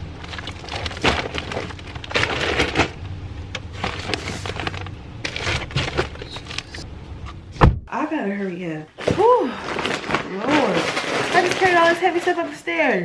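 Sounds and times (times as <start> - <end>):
shopping bags rustling: 0.0 - 3.0, 3.6 - 6.8, 8.4 - 13.0.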